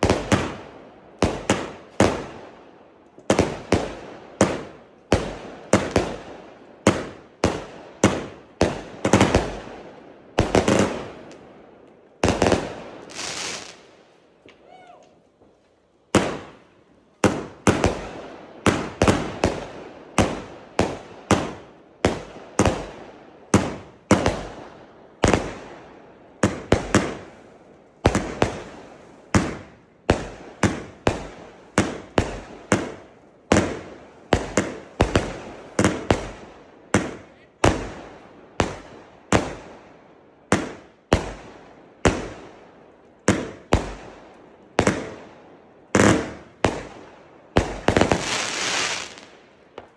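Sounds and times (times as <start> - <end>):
firework battery sharp bangs: 0.0 - 2.6, 3.2 - 11.4, 12.2 - 13.8, 16.1 - 25.8, 26.4 - 39.8, 40.4 - 42.6, 43.2 - 45.2, 45.9 - 49.9.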